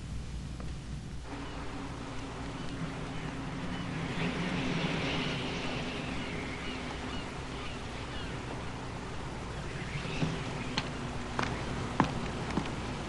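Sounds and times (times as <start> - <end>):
background hiss: 0.0 - 13.0
steady low drone: 0.0 - 13.0
bird chirps: 1.3 - 12.2.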